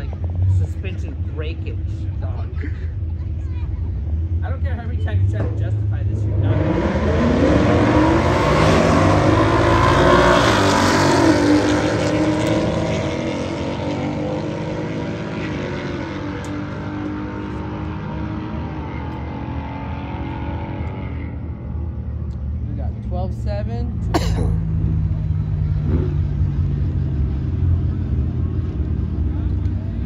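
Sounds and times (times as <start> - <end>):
drag racing cars accelerating: 4.0 - 30.0.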